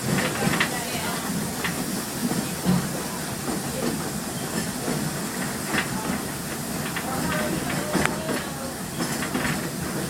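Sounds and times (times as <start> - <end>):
steam train running: 0.0 - 10.0
wheels clacking over rails: 0.0 - 10.0.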